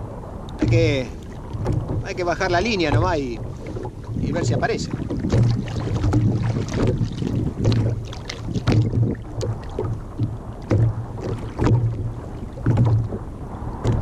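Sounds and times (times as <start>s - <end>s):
waves slapping a kayak hull: 0.0s - 14.0s
wind on microphone: 0.0s - 14.0s.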